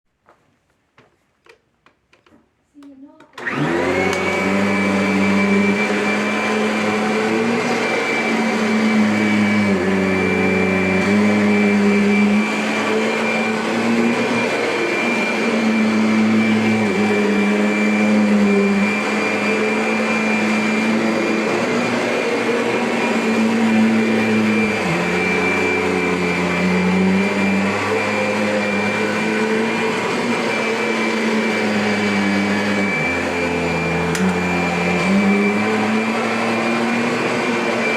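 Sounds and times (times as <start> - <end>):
vacuum cleaner running: 3.3 - 37.9.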